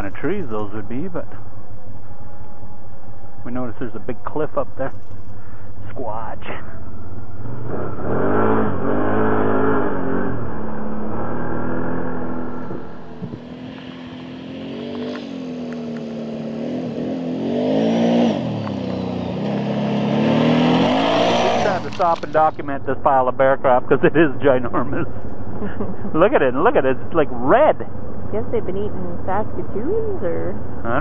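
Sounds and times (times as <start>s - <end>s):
approaching atv engine: 0.0s - 31.0s
atv engine revving: 0.0s - 31.0s.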